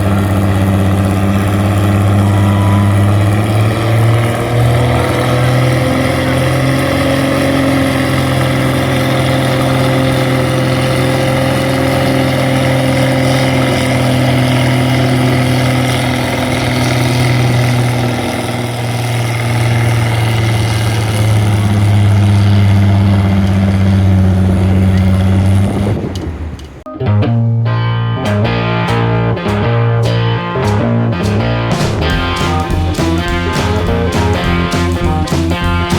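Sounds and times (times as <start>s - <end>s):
tractor engine running hard: 0.0s - 26.8s, 28.8s - 35.9s.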